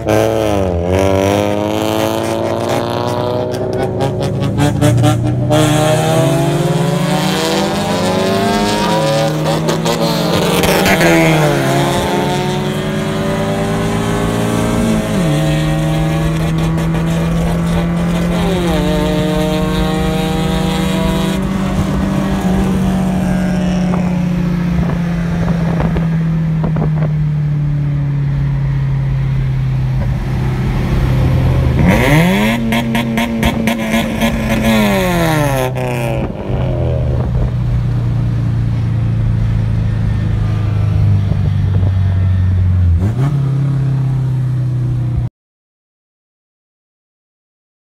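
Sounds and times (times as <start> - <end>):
car engine at full throttle: 0.0 - 45.3.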